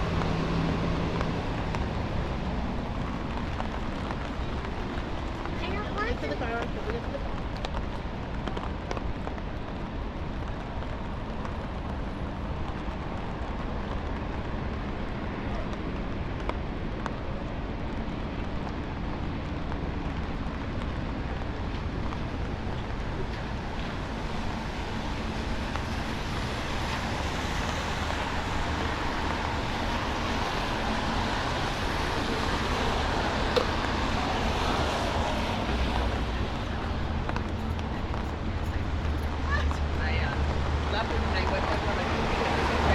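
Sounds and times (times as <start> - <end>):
rumble of street traffic: 0.0 - 42.9.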